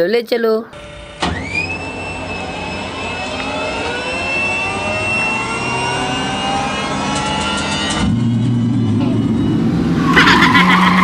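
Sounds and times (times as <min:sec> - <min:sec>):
jet engine whine: 0:00.7 - 0:11.0.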